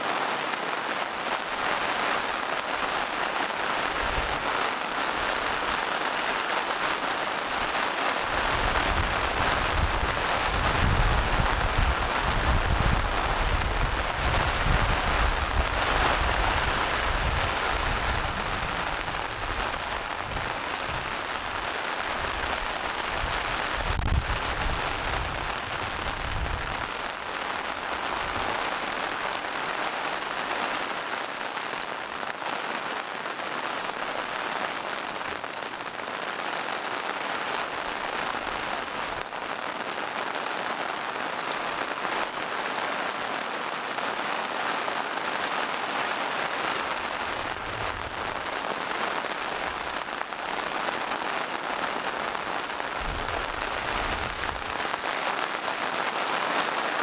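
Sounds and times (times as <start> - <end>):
rain falling in forest: 0.0 - 57.0.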